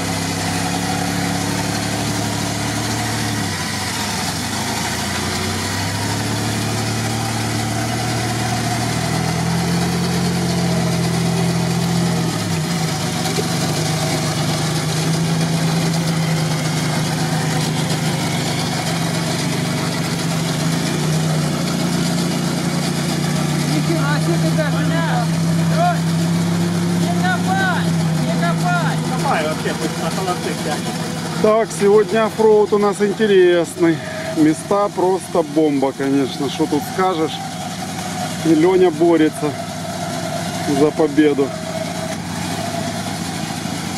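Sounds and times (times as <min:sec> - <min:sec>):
engine running under load: 0:00.0 - 0:43.9.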